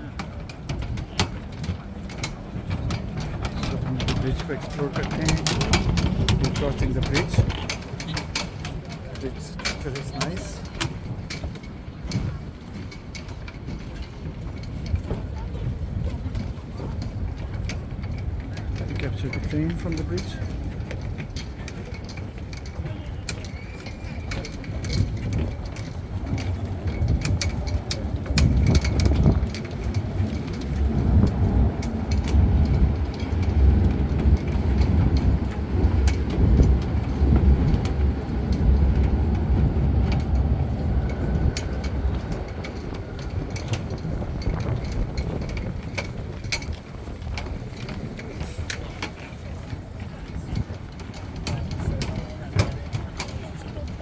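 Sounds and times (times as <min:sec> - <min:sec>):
train passing with low rumble: 0:00.0 - 0:54.0.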